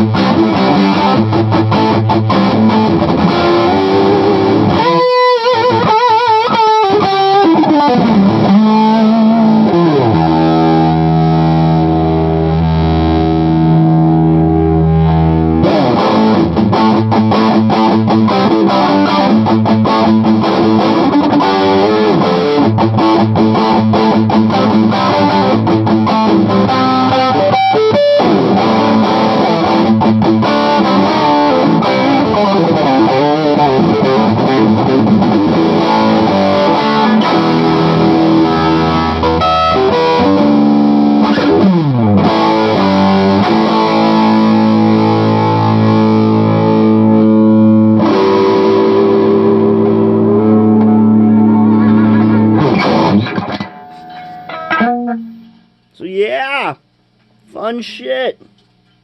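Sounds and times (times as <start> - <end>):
overdriven electric guitar: 0.0 - 56.0.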